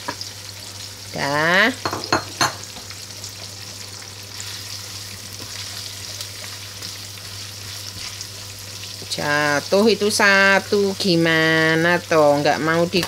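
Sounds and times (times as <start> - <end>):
eggplant sizzling in oil: 0.0 - 13.0.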